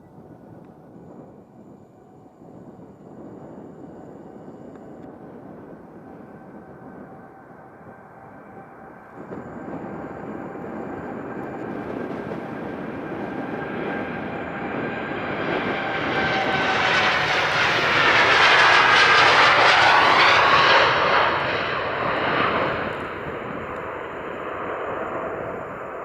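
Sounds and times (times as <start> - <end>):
jet airliner taking off: 0.1 - 26.0.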